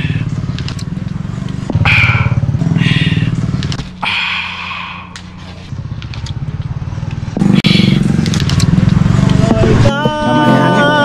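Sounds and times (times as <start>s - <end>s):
motorbike engine puttering: 0.0s - 11.0s.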